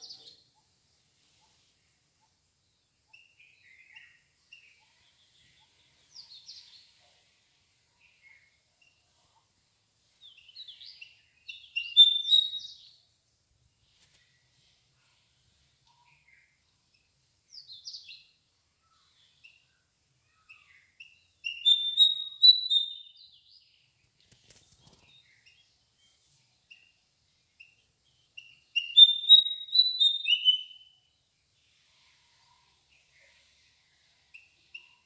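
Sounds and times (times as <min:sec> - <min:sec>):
songbird chirping: 0:00.0 - 0:35.0.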